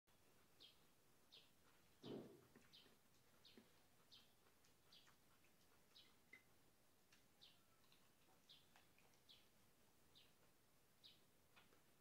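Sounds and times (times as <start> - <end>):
small bird chirping: 0.4 - 12.0.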